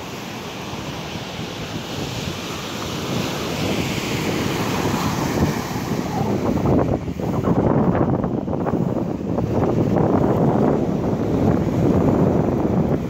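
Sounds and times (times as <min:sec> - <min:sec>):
surf washing onto a beach: 0:00.0 - 0:13.0
wind buffeting the microphone: 0:00.0 - 0:13.0.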